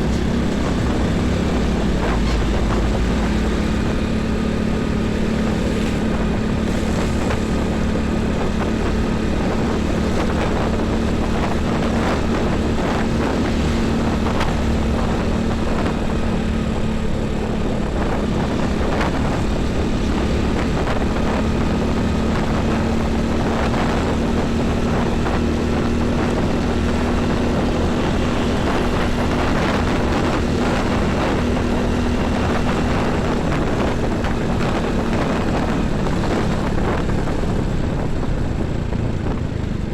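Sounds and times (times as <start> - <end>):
heavy vehicle engines droning: 0.0 - 39.9
tyre and road noise: 0.0 - 39.9.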